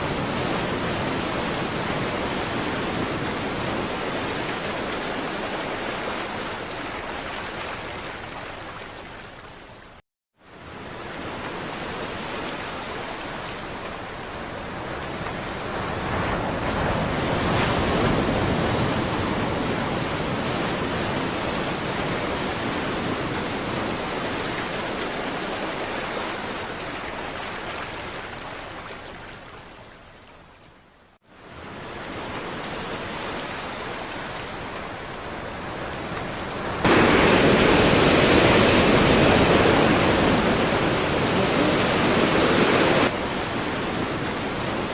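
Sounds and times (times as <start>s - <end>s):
ocean surf washing: 0.0s - 9.8s, 10.5s - 29.7s, 31.3s - 44.9s.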